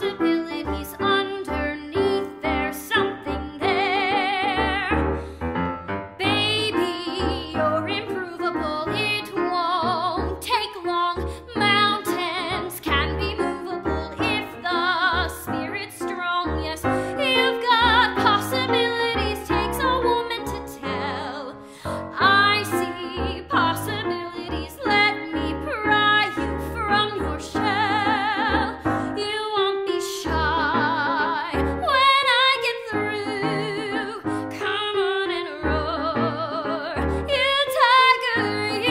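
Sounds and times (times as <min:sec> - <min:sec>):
woman singing with vibrato: 0:00.0 - 0:05.0, 0:06.2 - 0:38.9
piano accompaniment: 0:00.0 - 0:38.9.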